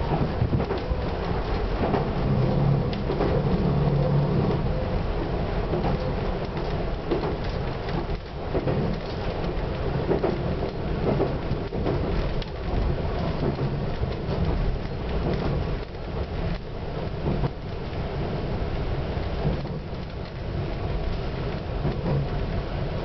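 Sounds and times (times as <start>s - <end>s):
train engine and wheels rumbling: 0.0s - 23.0s
train knocks and clatter: 0.0s - 23.0s.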